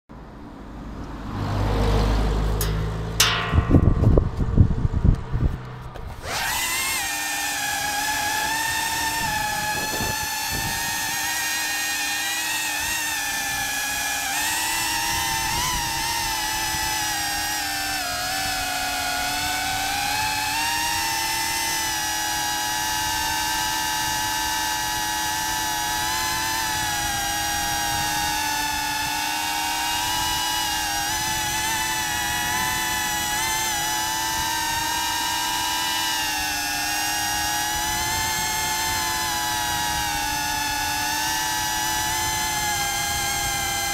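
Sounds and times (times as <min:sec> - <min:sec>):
quadcopter motors whining: 0:01.6 - 0:43.9.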